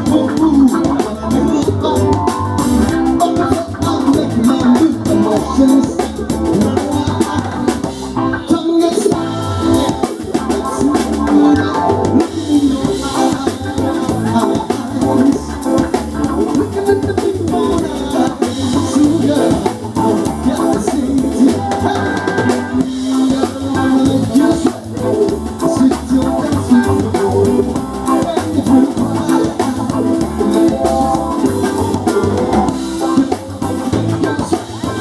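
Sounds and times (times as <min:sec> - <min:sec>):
drum kit beat: 0:00.0 - 0:35.0.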